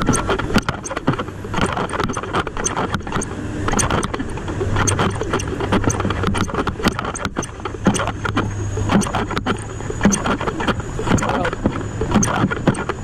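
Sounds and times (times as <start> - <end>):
bus engine hum: 0.0 - 13.0
gear rattling and jingling: 0.0 - 13.0.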